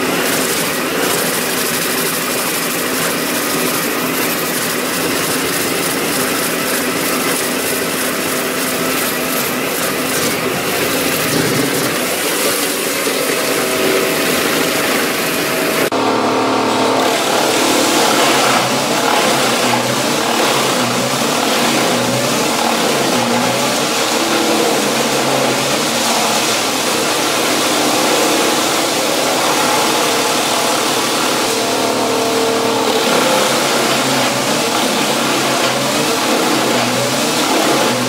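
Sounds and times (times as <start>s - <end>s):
wood chipper engine drone: 0.0s - 38.0s
wood grinding: 0.0s - 38.0s.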